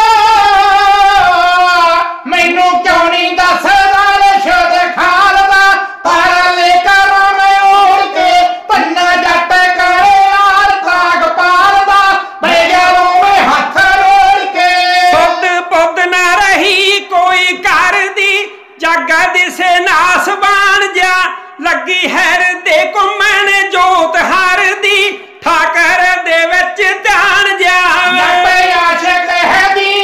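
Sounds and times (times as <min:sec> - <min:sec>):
men singing together unaccompanied: 0:00.0 - 0:21.3, 0:21.9 - 0:30.0.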